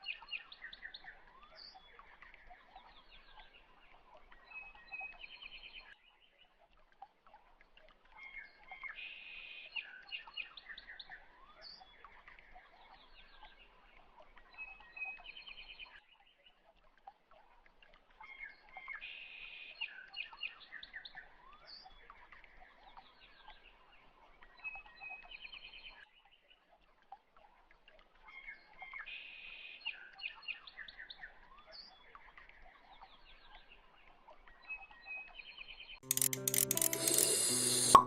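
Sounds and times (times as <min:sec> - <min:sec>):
faint birdsong chirps and trills: 0:00.0 - 0:06.7, 0:08.0 - 0:16.7, 0:17.9 - 0:26.9, 0:27.6 - 0:36.0.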